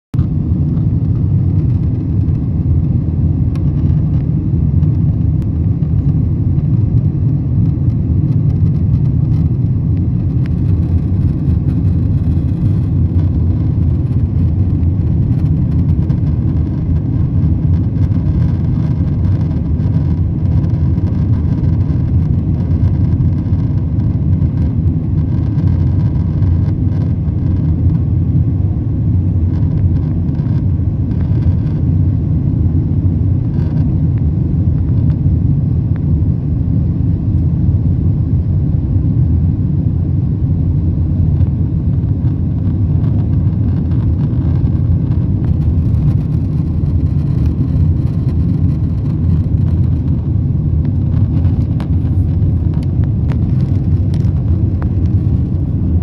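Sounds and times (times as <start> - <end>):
deep rumble of jet engines: 0.1 - 56.0.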